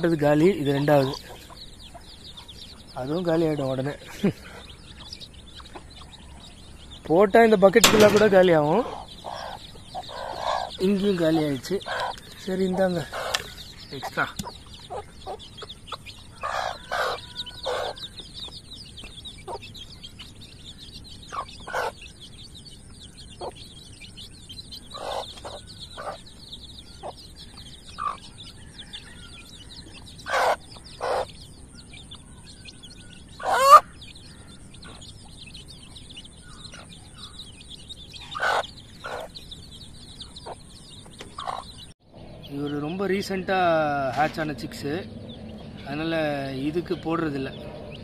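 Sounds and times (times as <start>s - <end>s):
chickens clucking: 0.0s - 22.2s, 22.9s - 48.0s
chicks cheeping: 0.0s - 48.0s.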